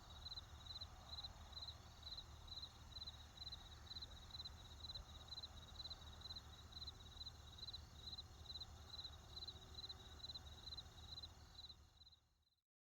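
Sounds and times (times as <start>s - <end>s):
crickets chirping: 0.2s - 11.7s.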